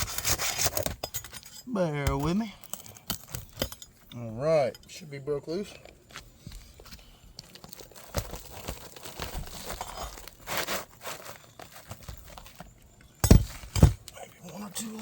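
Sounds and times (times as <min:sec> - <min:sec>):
shingle crinkling and tearing: 0:00.0 - 0:04.1, 0:05.8 - 0:15.0
tools scraping shingles: 0:00.0 - 0:05.0, 0:05.8 - 0:15.0.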